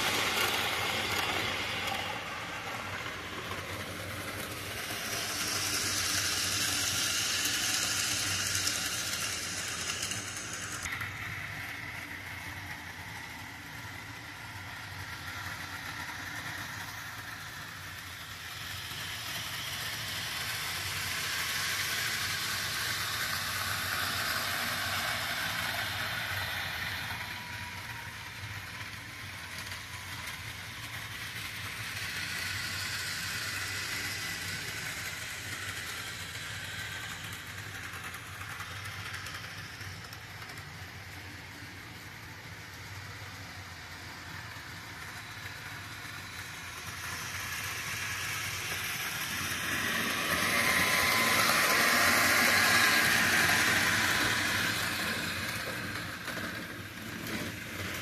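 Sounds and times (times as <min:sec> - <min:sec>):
model train running: 0:00.0 - 0:58.0.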